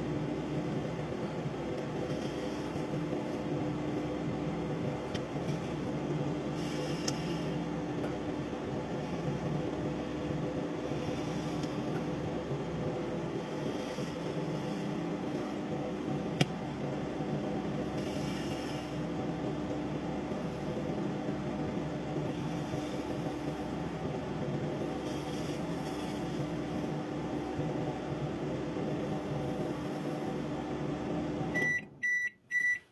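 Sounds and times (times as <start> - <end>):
microwave oven humming: 0.0 - 32.9.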